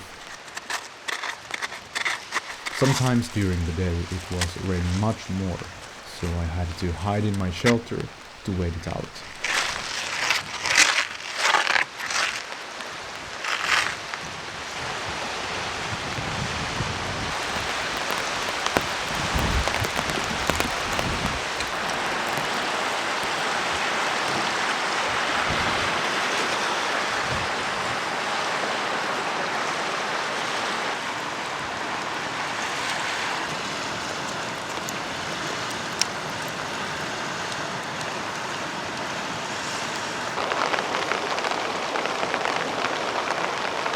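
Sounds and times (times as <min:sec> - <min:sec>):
steady rain falling: 0:00.0 - 0:01.2, 0:02.3 - 0:43.9.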